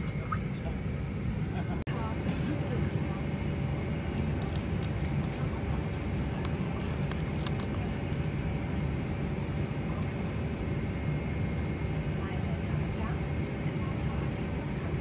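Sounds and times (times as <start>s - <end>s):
airliner cabin rumble: 0.0s - 15.0s
faint constant hum: 0.0s - 15.0s.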